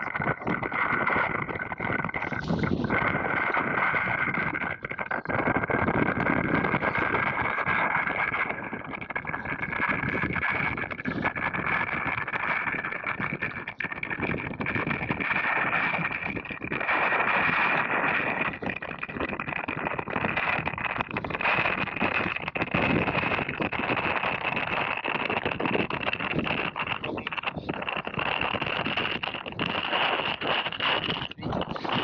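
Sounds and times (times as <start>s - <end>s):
steady high whine: 0.0s - 32.0s
wind buffeting microphone: 0.0s - 32.0s.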